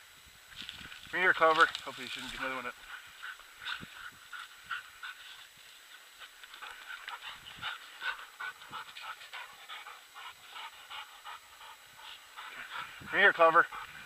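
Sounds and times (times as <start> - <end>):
dog panting: 2.3 - 14.0.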